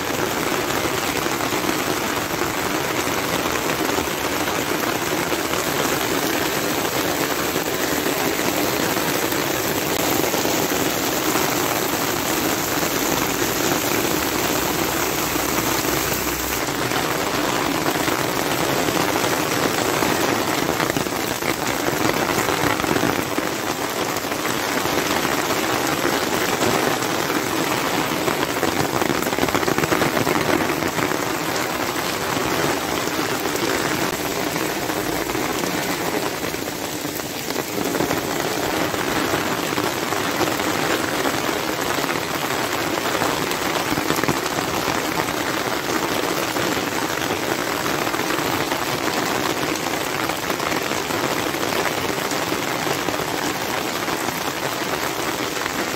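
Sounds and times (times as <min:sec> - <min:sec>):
rain on wet paving: 0:00.0 - 0:55.9.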